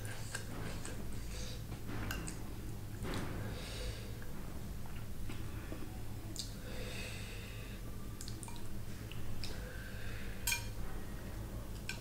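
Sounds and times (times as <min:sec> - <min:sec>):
low steady hum: 0:00.0 - 0:12.0
soft eating sounds: 0:00.0 - 0:12.0.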